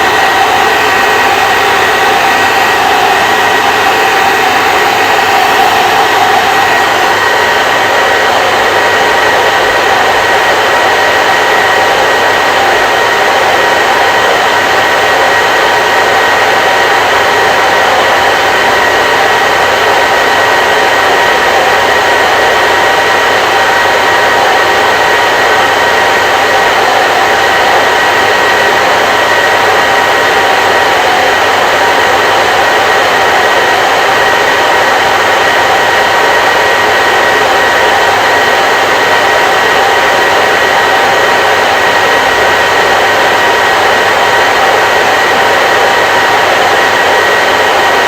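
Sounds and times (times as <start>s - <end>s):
hair dryer running: 0.0s - 48.0s.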